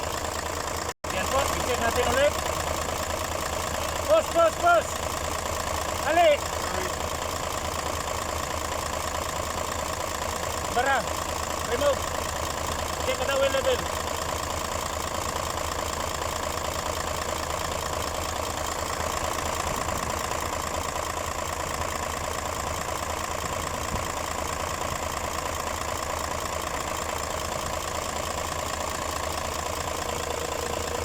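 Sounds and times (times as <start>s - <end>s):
truck diesel engine idling: 0.0s - 31.0s.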